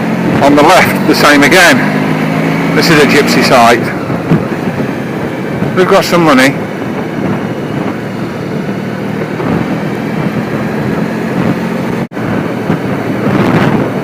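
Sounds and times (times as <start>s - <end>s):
motorcycle engine running: 0.0s - 14.0s
road noise: 0.0s - 14.0s
wind rushing: 0.0s - 14.0s.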